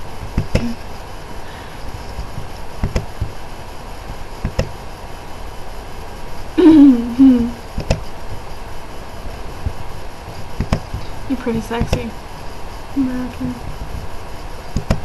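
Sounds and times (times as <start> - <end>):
low hiss and rumble: 0.0 - 15.0.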